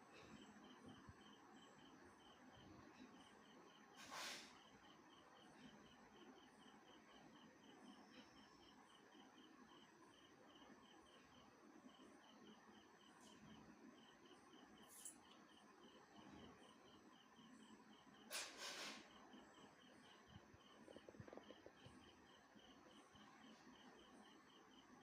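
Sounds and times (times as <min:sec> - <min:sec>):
cricket chirping: 0:00.0 - 0:25.0.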